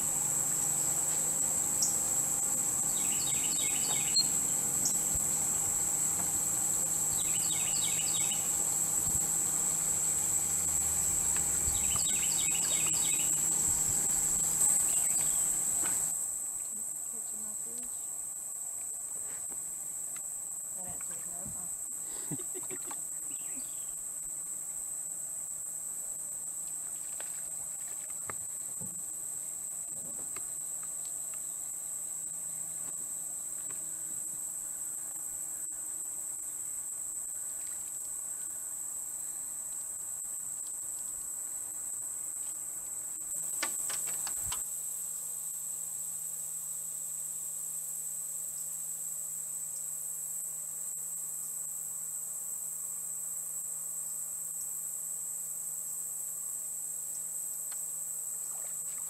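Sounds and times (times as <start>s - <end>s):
shrill insect chorus: 0.0s - 59.0s.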